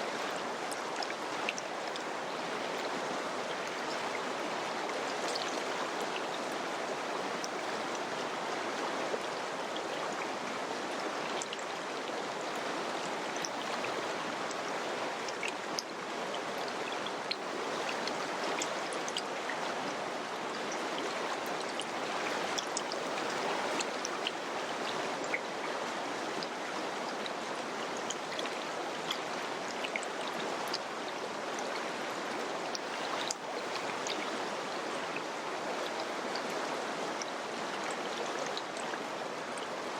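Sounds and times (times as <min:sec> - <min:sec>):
water splashes and drips: 0:00.0 - 0:39.9.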